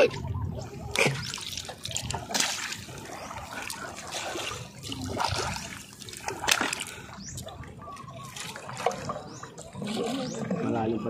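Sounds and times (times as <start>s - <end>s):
shallow water splashing: 0.0s - 11.0s.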